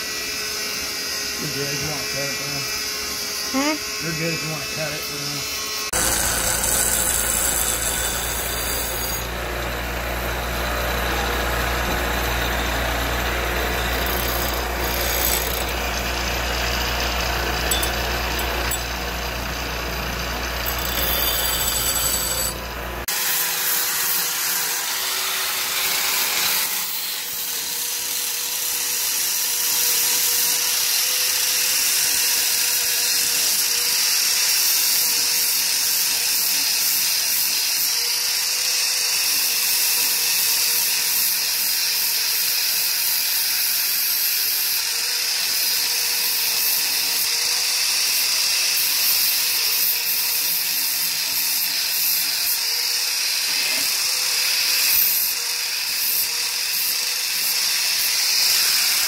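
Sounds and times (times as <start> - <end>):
power tool cutting or grinding: 0.0 - 59.0.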